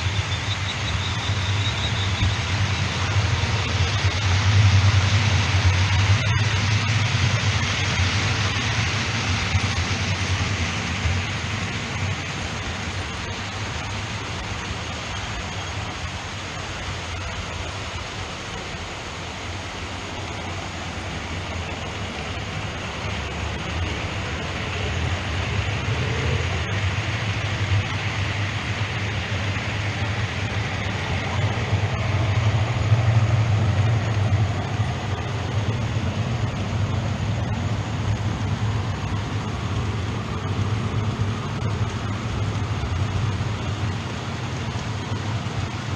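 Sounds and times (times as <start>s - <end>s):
model trains rumbling and whirring: 0.0s - 45.9s.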